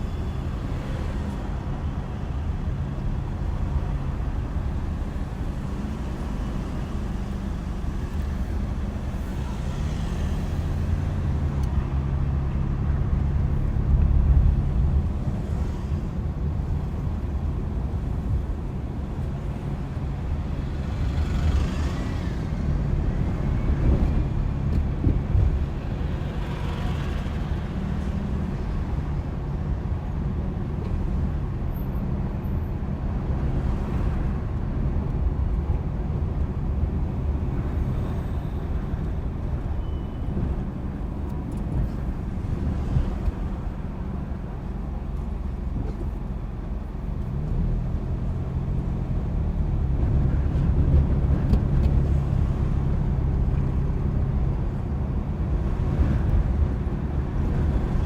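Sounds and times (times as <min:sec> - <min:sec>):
car engine and road noise: 0:00.0 - 0:58.0
traffic swishing past: 0:03.6 - 0:58.0.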